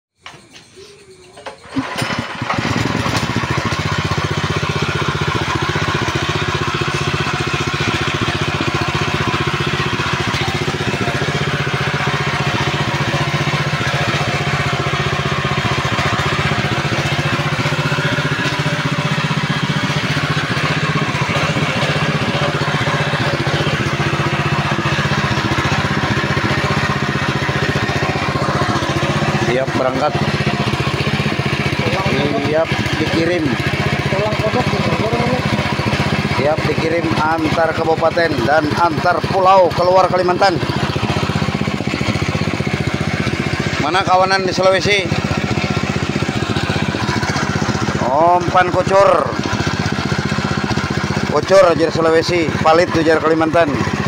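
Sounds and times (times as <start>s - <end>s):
small petrol engine running: 0.2s - 54.0s.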